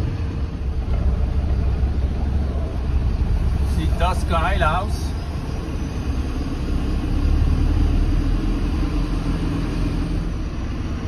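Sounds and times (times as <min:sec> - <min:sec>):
low road rumble: 0:00.0 - 0:11.0
vehicle engine running: 0:00.0 - 0:11.0.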